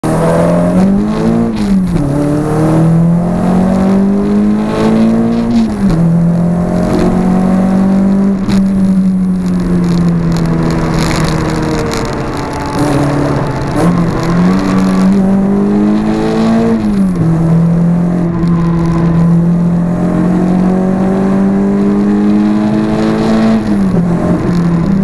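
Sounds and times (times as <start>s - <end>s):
car engine accelerating and shifting: 0.0s - 25.0s.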